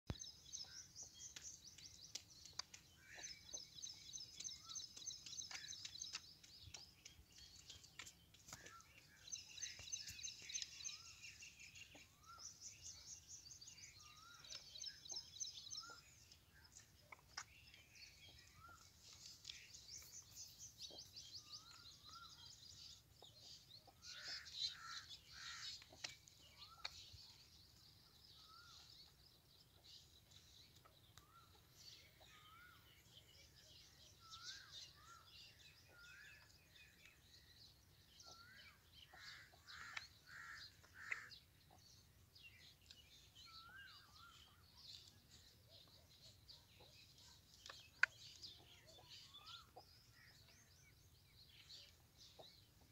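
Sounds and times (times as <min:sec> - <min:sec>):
small birds chirping: 0:00.1 - 0:52.9.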